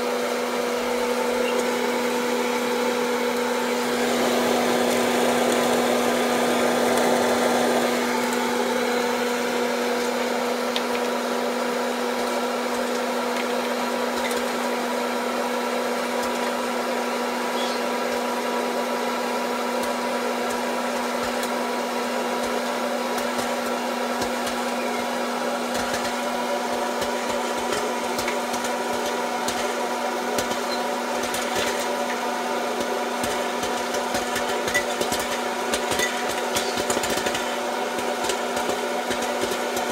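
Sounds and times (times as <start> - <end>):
popcorn maker fan humming: 0.0 - 39.9
popcorn kernels popping: 0.8 - 39.9.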